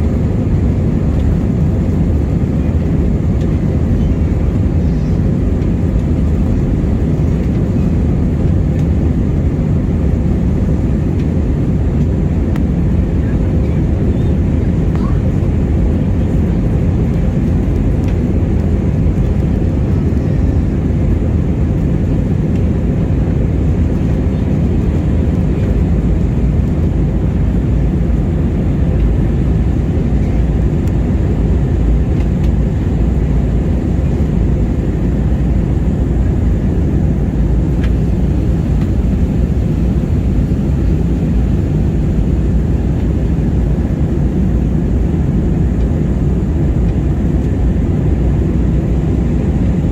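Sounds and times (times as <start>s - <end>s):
jet engine cabin rumble: 0.0s - 49.9s.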